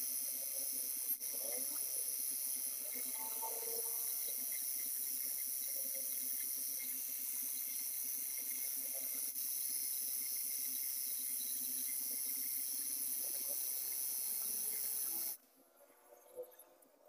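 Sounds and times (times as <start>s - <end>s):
high-pitched hiss: 0.0s - 15.4s.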